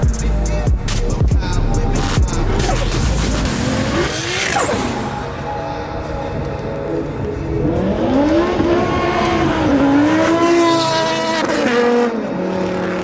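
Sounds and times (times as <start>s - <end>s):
car engine revving: 1.0s - 5.4s, 6.7s - 13.0s.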